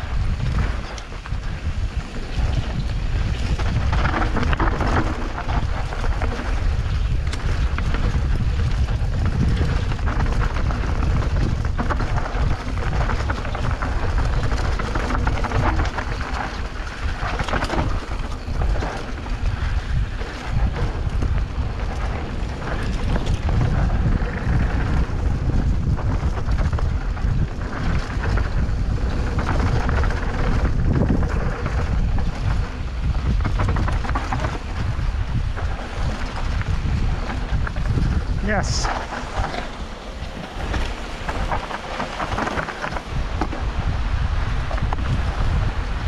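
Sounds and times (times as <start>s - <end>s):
tyres rolling over dirt: 0.0s - 46.0s
wind buffeting microphone: 0.0s - 46.0s.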